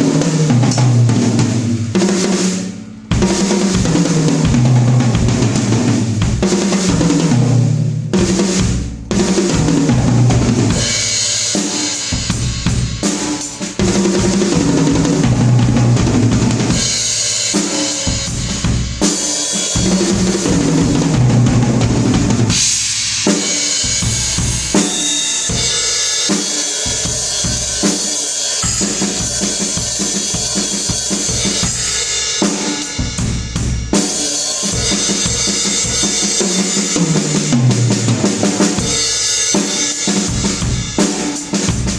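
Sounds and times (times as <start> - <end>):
drum kit playing a steady beat: 0.0 - 41.9.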